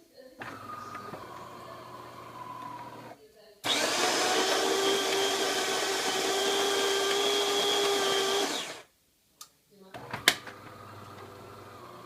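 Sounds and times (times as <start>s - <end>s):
coffee grinder whirring: 0.4s - 8.9s, 10.0s - 12.0s.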